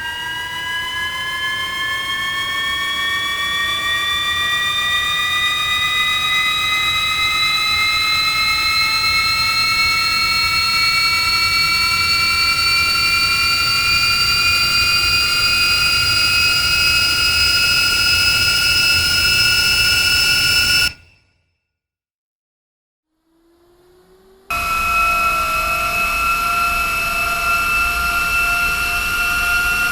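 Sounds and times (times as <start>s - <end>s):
rising high whine tones: 0.0s - 21.2s, 23.7s - 29.9s.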